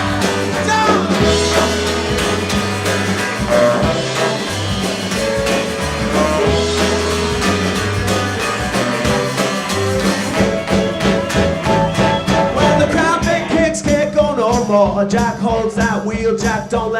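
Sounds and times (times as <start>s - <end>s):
electric guitars: 0.0s - 14.2s
rock band playing: 0.0s - 15.0s.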